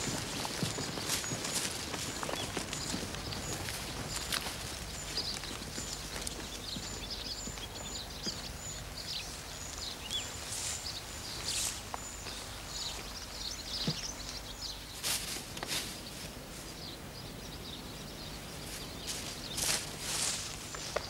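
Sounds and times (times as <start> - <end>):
low outdoor hum: 0.0 - 21.0
small birds chirping: 0.0 - 21.0.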